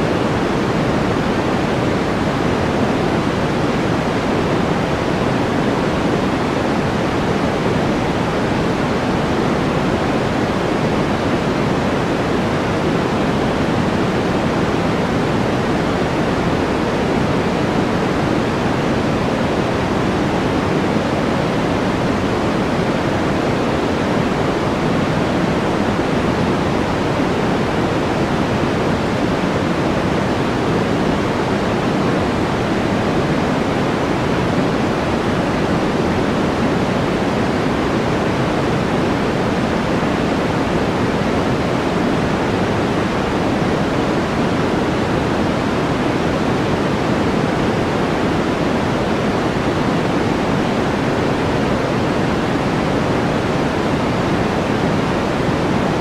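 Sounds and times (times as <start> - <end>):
deep white noise: 0.0 - 56.0.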